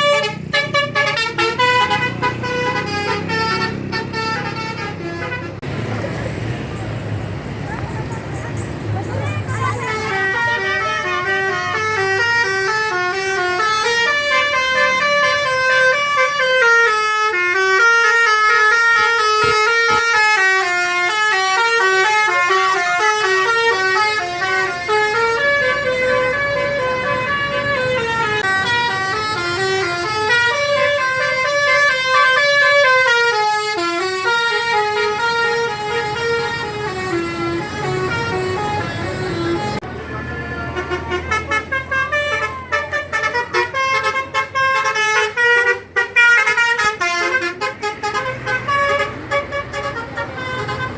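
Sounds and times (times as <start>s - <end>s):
bus musical horn melody: 0.0s - 5.7s, 9.3s - 50.9s.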